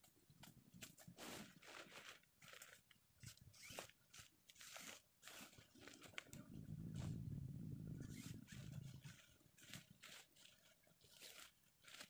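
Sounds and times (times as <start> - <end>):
tarp rustling and crinkling: 0.7 - 12.0.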